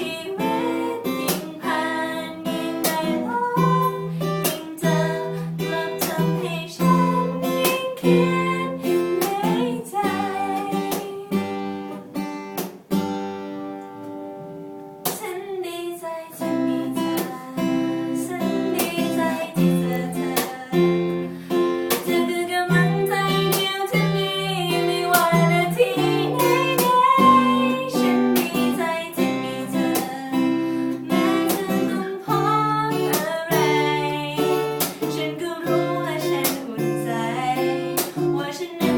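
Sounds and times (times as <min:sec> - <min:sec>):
person singing: 0:00.0 - 0:12.0, 0:15.1 - 0:38.9
acoustic guitar strumming: 0:00.0 - 0:15.5, 0:16.3 - 0:38.9.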